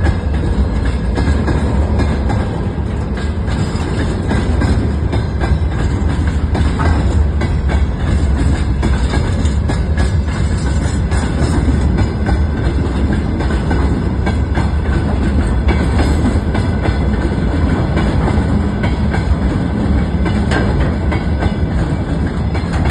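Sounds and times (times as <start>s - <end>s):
train passing rumble: 0.0s - 22.9s
wheels clicking over rail joints: 0.0s - 22.9s.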